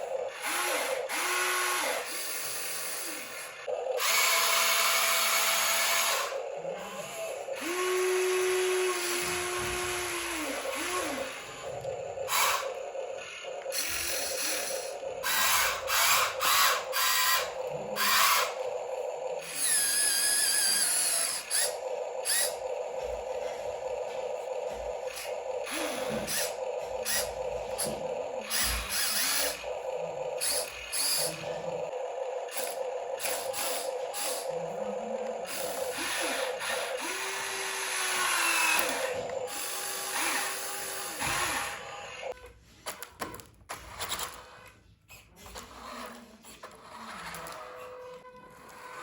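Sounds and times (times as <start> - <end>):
electric motor whining: 0.0 - 42.4.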